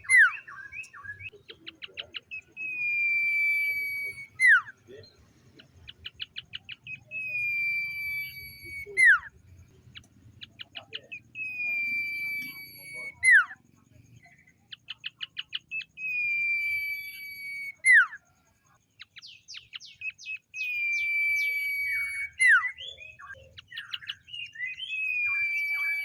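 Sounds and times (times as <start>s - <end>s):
long bird whistle: 0.0s - 5.1s, 5.8s - 26.0s.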